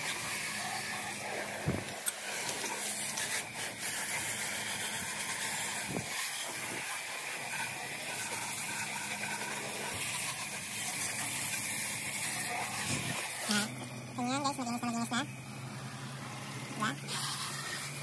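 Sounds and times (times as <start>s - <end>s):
hose nozzle spraying water: 0.0s - 13.7s, 15.9s - 18.0s.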